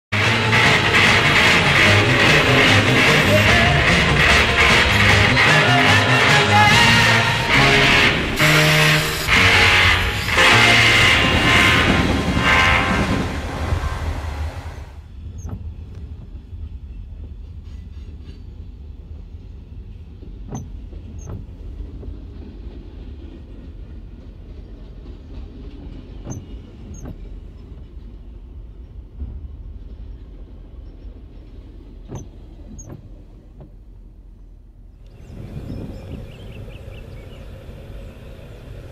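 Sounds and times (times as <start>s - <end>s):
freight train rumbling: 0.1s - 38.9s
train wheels clicking: 0.2s - 38.9s.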